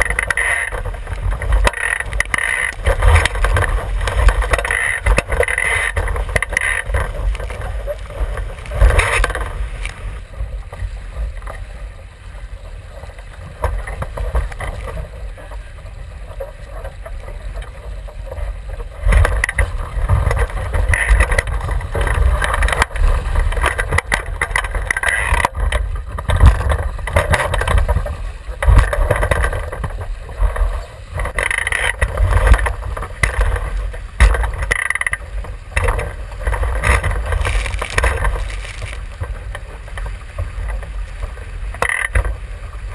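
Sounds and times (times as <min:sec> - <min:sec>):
water rushing past hull: 0:00.0 - 0:42.9
wind buffeting microphone: 0:00.0 - 0:42.9.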